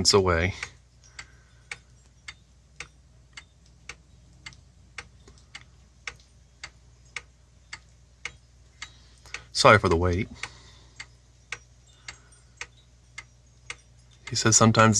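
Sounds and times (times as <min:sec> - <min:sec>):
pendulum clock ticking: 0:00.0 - 0:14.9.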